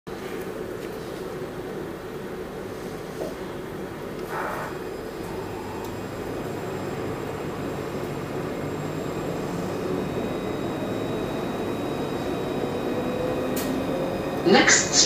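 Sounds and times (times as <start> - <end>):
faint tram whine: 0.1 - 15.0
tram rolling rumble: 0.2 - 15.0.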